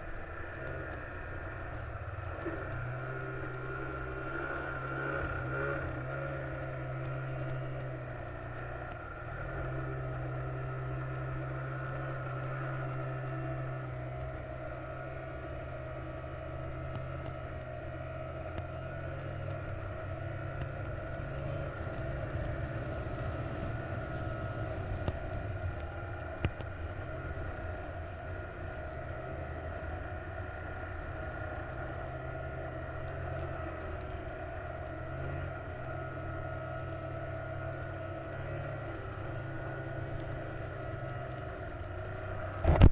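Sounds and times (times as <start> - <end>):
light ticks: 0.0 - 42.9
road noise: 0.0 - 42.9
vehicle engine drone: 0.0 - 42.9.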